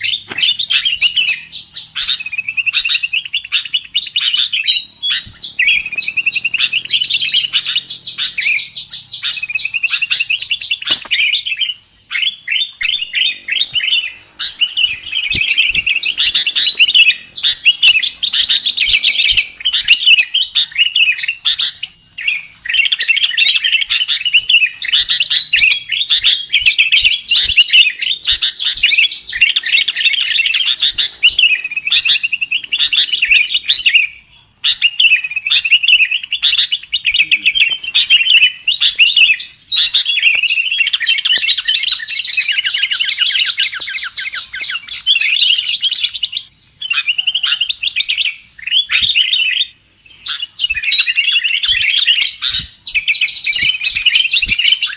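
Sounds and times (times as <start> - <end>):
songbirds chirping and chattering: 0.0 - 54.9.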